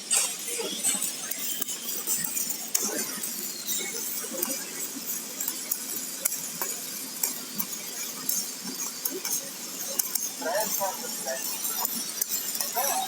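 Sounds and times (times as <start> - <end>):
arc welding crackling sizzle: 0.0 - 13.0.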